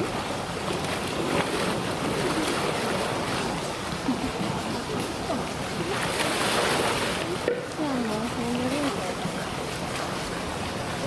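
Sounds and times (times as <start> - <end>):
water rushing and sloshing: 0.0 - 11.0.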